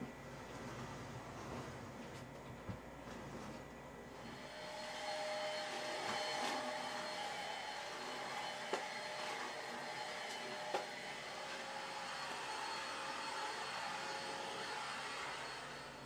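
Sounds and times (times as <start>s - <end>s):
stick vacuum running with whine: 0.0s - 16.0s
vacuum sucking up grit: 3.0s - 16.0s.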